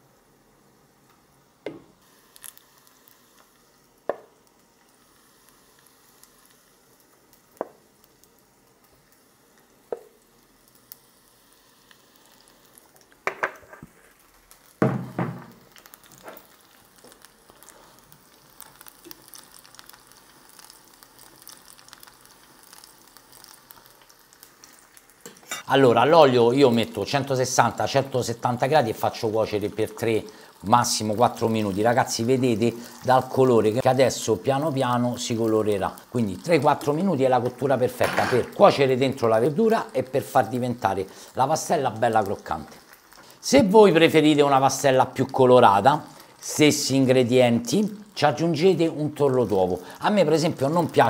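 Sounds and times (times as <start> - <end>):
oil frying sizzle: 0.0 - 51.0.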